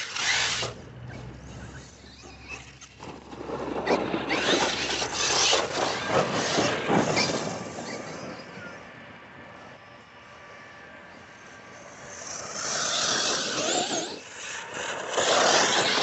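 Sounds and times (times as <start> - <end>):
rc buggy driving past: 0.0 - 16.0.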